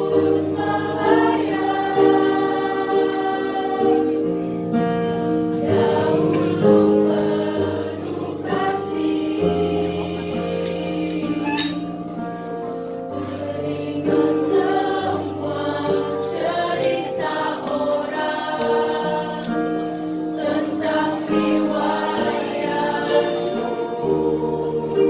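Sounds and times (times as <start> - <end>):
women's choir singing: 0.0 - 25.0.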